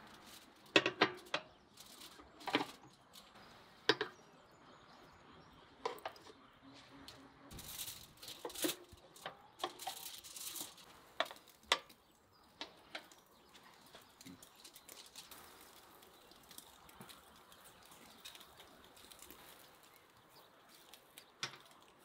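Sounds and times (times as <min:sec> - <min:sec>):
food preparation rustling and clicking: 0:00.0 - 0:04.2, 0:07.0 - 0:22.0.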